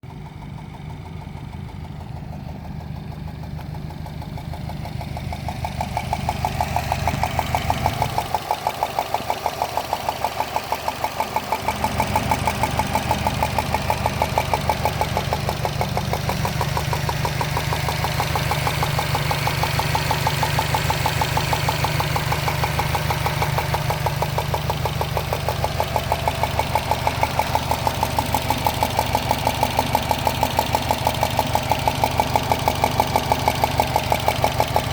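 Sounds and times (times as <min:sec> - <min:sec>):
car engine idling: 0:00.0 - 0:34.9
rapid engine ticking: 0:00.0 - 0:34.9.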